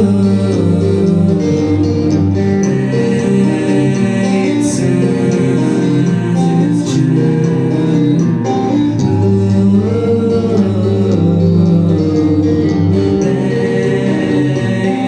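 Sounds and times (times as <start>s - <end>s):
acoustic guitar: 0.0s - 15.0s
electric guitar: 0.0s - 15.0s.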